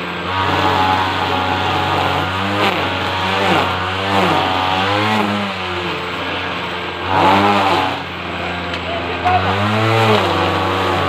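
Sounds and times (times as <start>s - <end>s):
string trimmer engine revving: 0.0s - 11.0s.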